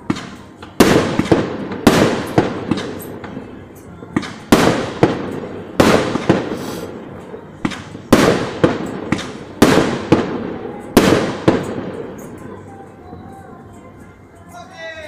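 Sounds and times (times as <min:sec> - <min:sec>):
firework shells bursting: 0:00.0 - 0:12.6
rumbling echo: 0:00.0 - 0:13.2
firework crackling: 0:00.0 - 0:14.0.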